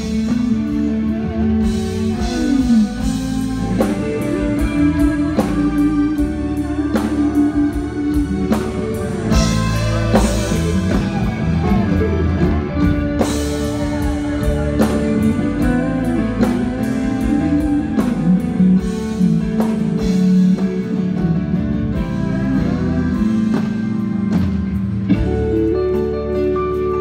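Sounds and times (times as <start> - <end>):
drum kit: 0.0 - 27.0.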